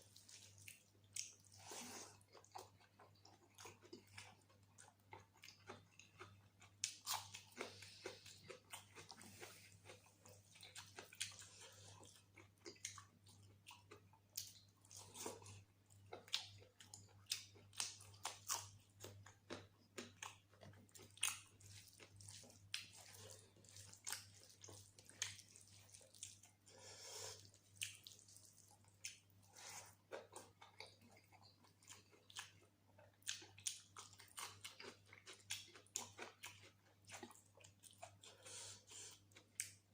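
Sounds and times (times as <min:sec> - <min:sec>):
close-up chewing and mouth sounds: 0:00.0 - 0:39.9
faint steady low hum: 0:00.0 - 0:39.9.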